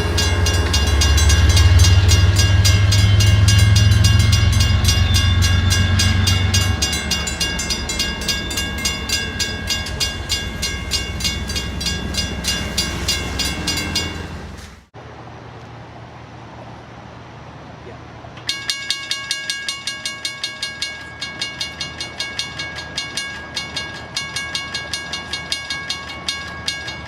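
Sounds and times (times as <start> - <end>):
crossing bell ringing: 0.0 - 14.8, 18.4 - 27.0.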